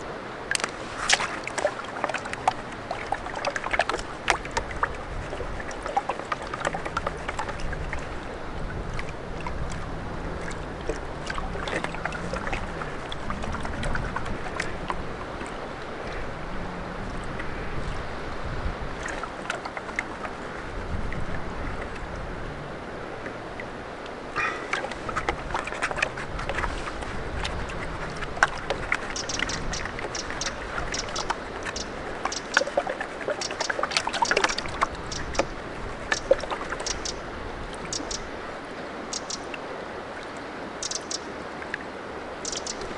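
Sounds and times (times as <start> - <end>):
water sloshing: 0.0 - 42.9.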